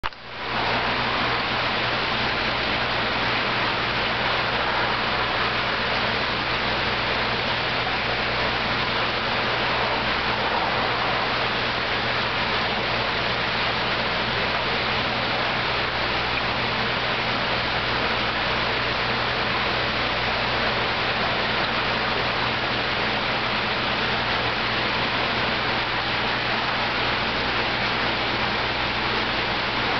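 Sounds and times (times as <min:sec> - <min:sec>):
low steady hum: 0:00.0 - 0:29.9
water rushing in tank: 0:00.0 - 0:29.9.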